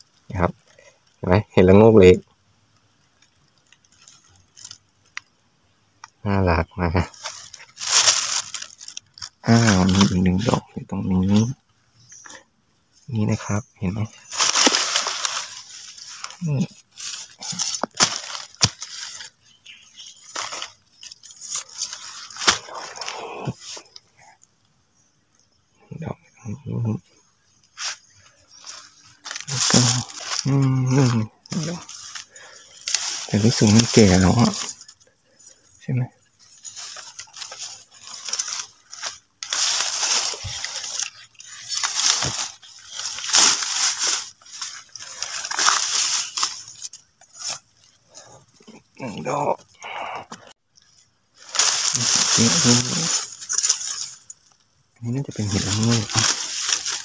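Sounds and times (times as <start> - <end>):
dry leaves rustling and crunching: 2.8 - 5.4, 6.2 - 12.4, 13.1 - 24.5, 27.6 - 35.7, 36.3 - 49.4, 50.8 - 57.0.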